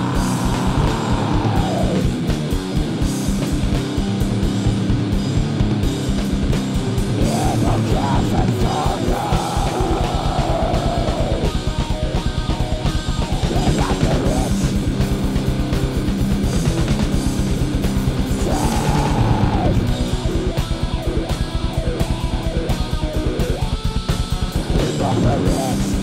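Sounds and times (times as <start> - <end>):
heavy rock song: 0.0 - 26.0.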